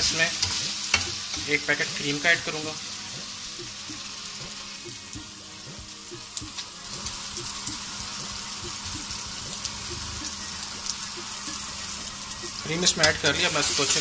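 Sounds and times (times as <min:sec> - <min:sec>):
chicken sizzling in hot fat: 0:00.0 - 0:14.0.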